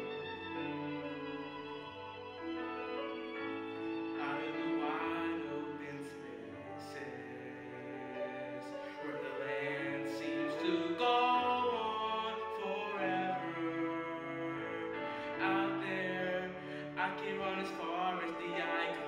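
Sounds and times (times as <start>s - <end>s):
musical accompaniment: 0.0s - 19.0s
person singing: 2.8s - 19.0s.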